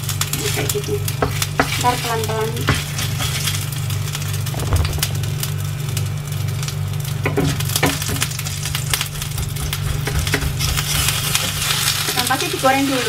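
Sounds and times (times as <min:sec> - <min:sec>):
fish paste sizzling in a pan: 0:00.0 - 0:04.5, 0:05.6 - 0:13.0
steady low hum: 0:02.2 - 0:13.0.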